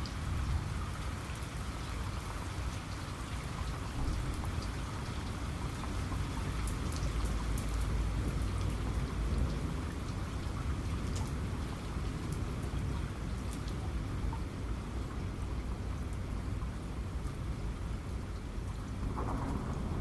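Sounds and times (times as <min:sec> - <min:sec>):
low rumble of thunder: 0:00.0 - 0:15.0, 0:17.2 - 0:20.0
heavy rain: 0:00.0 - 0:20.0.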